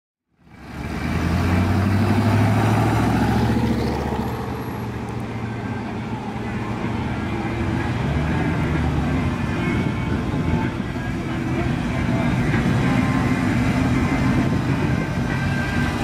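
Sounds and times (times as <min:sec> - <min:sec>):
car engines running at low speed: 0:00.3 - 0:16.0.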